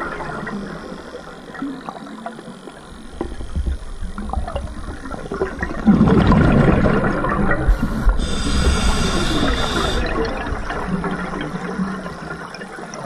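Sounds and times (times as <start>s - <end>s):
regulator exhaust bubbles: 0.0s - 12.9s
faint underwater crackling: 0.0s - 13.0s.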